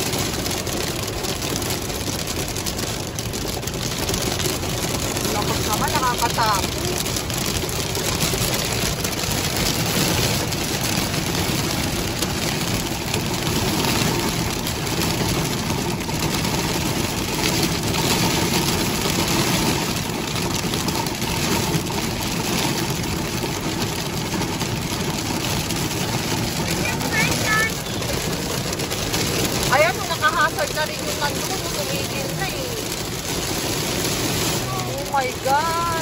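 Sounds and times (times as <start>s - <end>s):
car engine and road noise: 0.0s - 36.0s
heavy rain on car roof: 0.0s - 36.0s.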